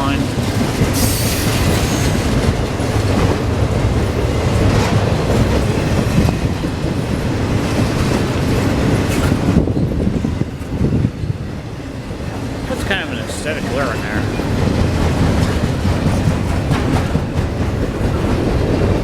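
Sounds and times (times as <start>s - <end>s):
freight train cars rolling: 0.0s - 19.0s.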